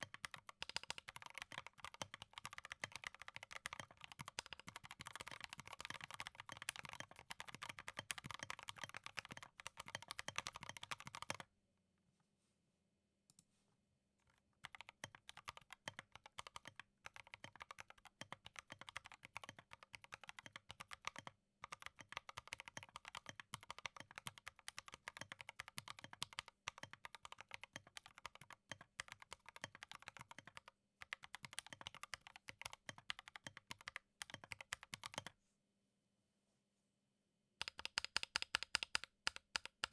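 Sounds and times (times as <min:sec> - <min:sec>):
typing on mechanical keyboard: 0:00.0 - 0:11.4, 0:14.6 - 0:35.3, 0:37.6 - 0:39.9.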